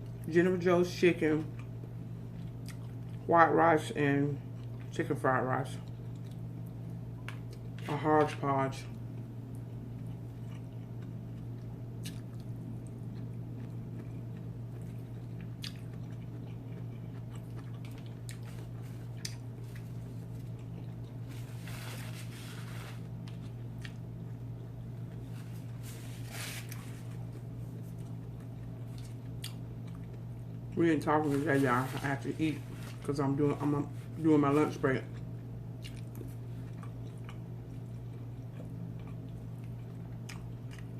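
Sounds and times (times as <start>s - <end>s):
steady low hum: 0.0s - 40.9s
person chewing food: 1.5s - 3.3s, 4.5s - 4.9s, 5.8s - 7.9s, 9.1s - 40.9s.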